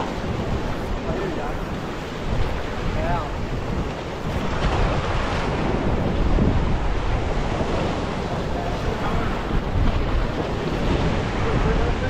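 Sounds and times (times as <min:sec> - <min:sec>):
waves breaking against rocks: 0:00.0 - 0:12.0
wind buffeting microphone: 0:00.0 - 0:12.0.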